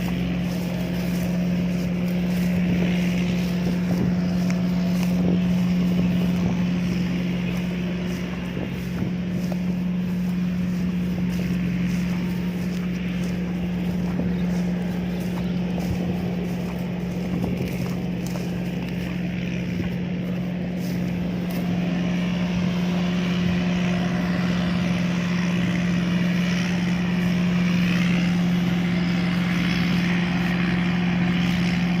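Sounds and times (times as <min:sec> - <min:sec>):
combine harvester drone: 0:00.0 - 0:32.0.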